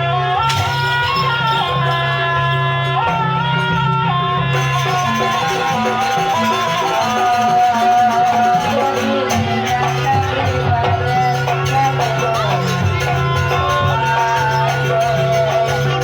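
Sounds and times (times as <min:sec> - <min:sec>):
drumming and percussion: 0:00.0 - 0:16.0.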